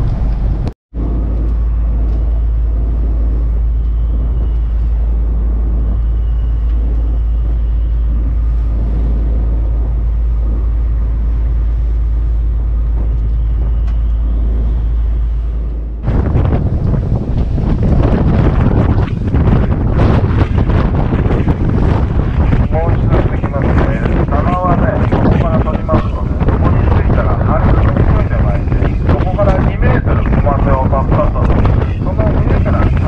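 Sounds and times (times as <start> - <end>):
boat engine rumble: 0.0 - 33.0
water rushing along hull: 0.0 - 33.0
wind buffeting microphone: 0.0 - 33.0.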